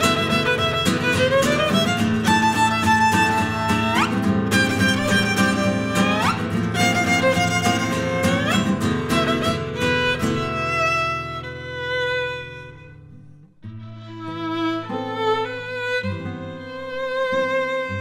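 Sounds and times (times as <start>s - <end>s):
violin playing tango: 0.0s - 13.1s, 13.7s - 18.0s
guitar rhythm: 0.0s - 18.0s.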